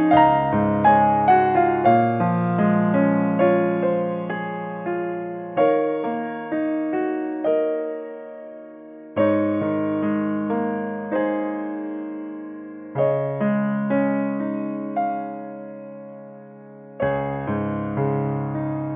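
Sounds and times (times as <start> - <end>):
gentle piano melody: 0.0 - 18.9.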